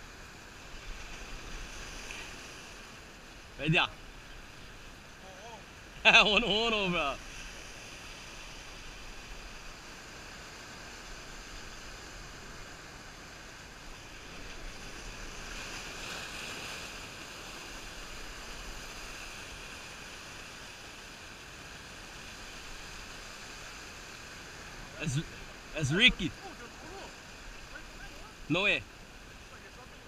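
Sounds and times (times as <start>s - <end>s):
surf washing over rocks: 0.0s - 30.0s.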